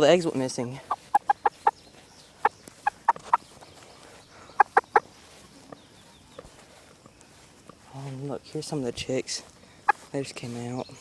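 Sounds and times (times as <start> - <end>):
chickens clucking: 0.0 - 7.9, 8.6 - 11.0.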